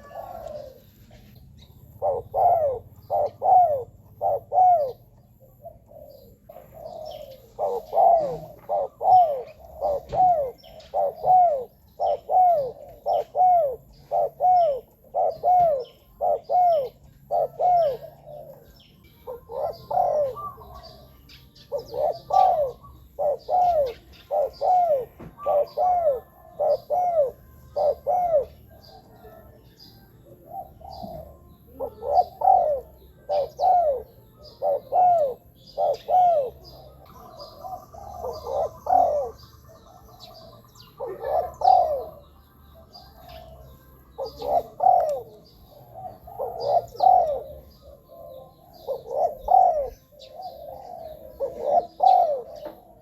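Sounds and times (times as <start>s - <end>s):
dove cooing: 0.0s - 53.0s
small birds chirping: 0.0s - 53.0s.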